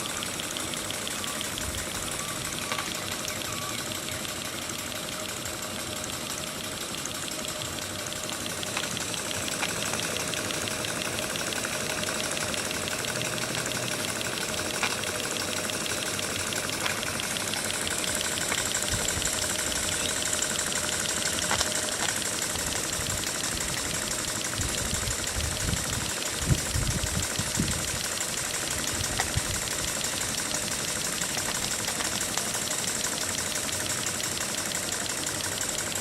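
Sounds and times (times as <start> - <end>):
model steam engine ticking: 0.0 - 36.0.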